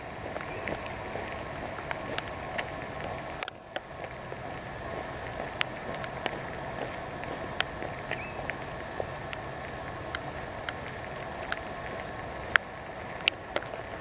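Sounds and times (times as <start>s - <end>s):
outdoor background noise: 0.0s - 14.0s
sharp ticks and clicks: 0.2s - 4.5s, 5.3s - 8.6s, 10.1s - 13.9s.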